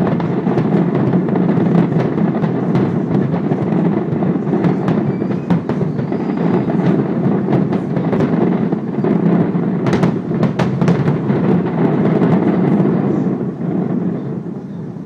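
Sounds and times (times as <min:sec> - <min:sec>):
sharp firework cracks: 0:00.0 - 0:14.6
fireworks booming: 0:00.0 - 0:15.0.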